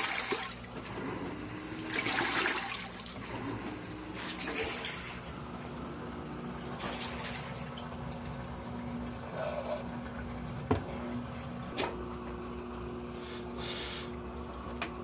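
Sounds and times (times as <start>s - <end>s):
motor hum: 0.0s - 15.0s
water churning in washing machine: 0.0s - 15.0s.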